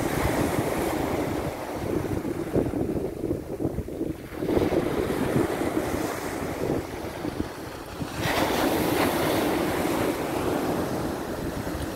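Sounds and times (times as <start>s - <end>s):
sea surf breaking on beach: 0.0s - 11.9s
wind buffeting microphone: 0.0s - 11.9s.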